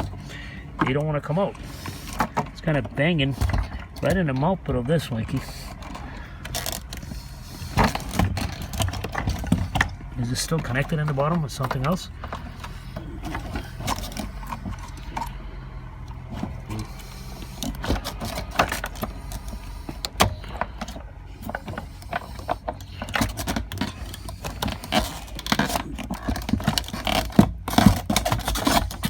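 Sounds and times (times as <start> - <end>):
steady low hum: 0.0 - 29.0
metal parts clicking and rattling: 4.9 - 15.4, 16.3 - 29.0.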